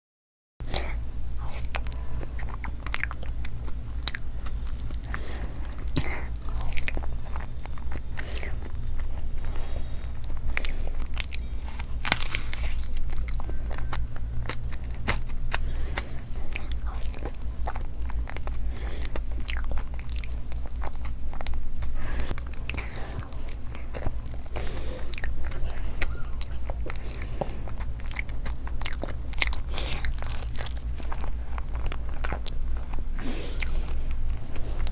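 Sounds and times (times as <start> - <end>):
chewing and biting: 0.6 - 34.9
low hum: 0.6 - 34.9
mouth clicks and crunches: 0.6 - 34.9.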